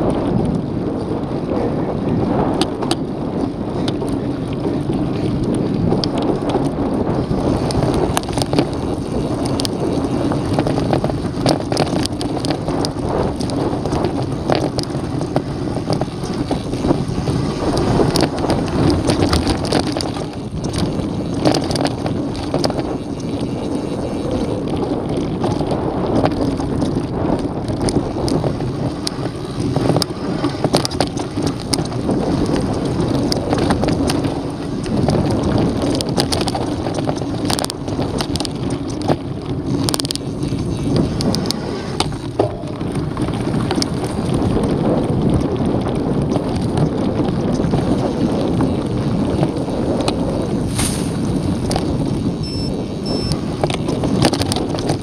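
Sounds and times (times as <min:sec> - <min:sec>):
bike rattling and knocking: 0:00.0 - 0:55.0
bike tyres crunching on gravel: 0:00.0 - 0:55.0
wind on microphone: 0:00.0 - 0:55.0.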